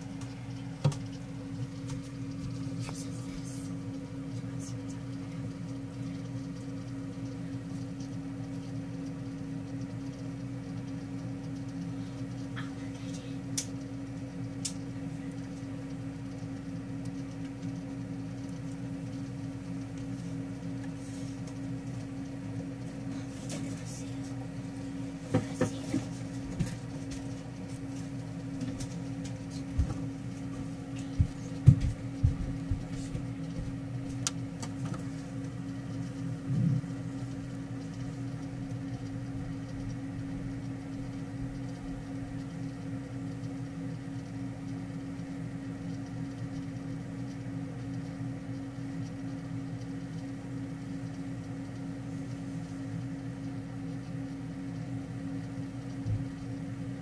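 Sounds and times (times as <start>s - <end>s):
low mechanical motor hum: 0.0s - 57.0s.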